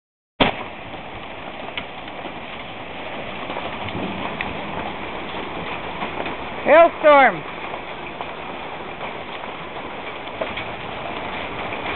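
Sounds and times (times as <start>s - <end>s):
hailstones striking: 0.4s - 11.9s
heavy rain downpour: 0.4s - 11.9s.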